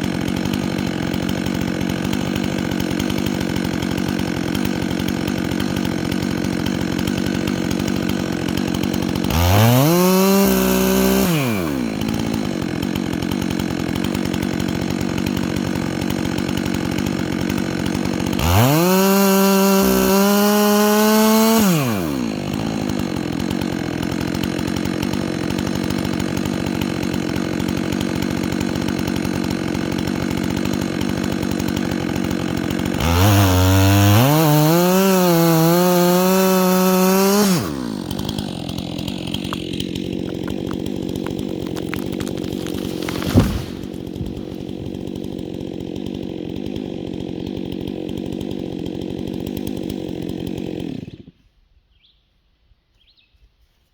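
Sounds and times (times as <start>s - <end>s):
chainsaw idling and revving: 0.0s - 51.4s.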